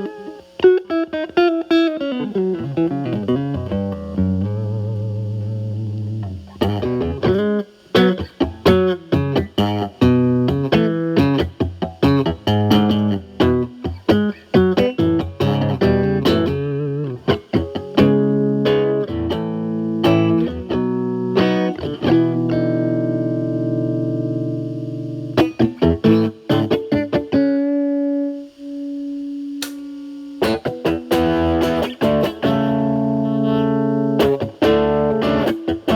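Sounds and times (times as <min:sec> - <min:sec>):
distorted electric guitar: 0:00.0 - 0:35.9.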